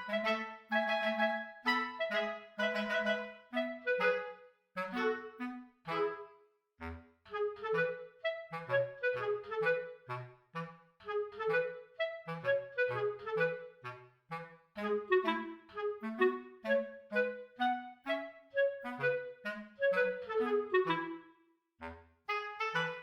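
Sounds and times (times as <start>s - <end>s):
bouncy woodwind tune: 0.0s - 23.0s.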